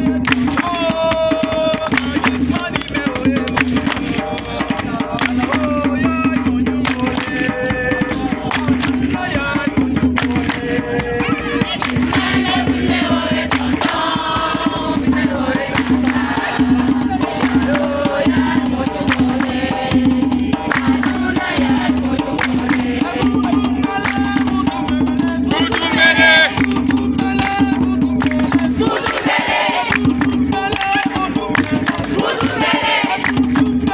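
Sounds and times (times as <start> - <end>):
group singing: 0.0 - 33.9
steady drumbeat: 0.0 - 33.9.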